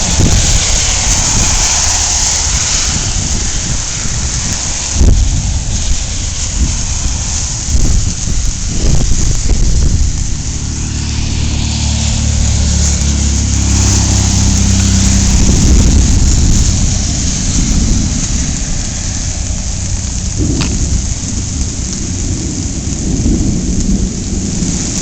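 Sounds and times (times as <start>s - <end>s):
steady rain: 0.0s - 25.0s
vehicle engine running: 0.0s - 25.0s.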